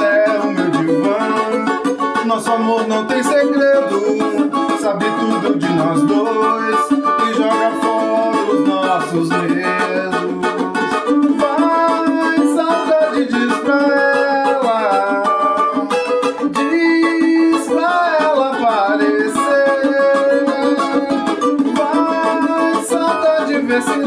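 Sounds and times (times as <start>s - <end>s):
man singing wordless melody: 0.0s - 24.0s
strummed acoustic strings: 0.0s - 24.0s.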